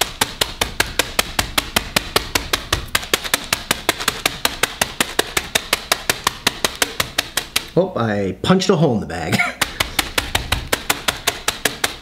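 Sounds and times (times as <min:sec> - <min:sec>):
fist pounding bag on countertop: 0:00.0 - 0:07.7, 0:09.6 - 0:12.0.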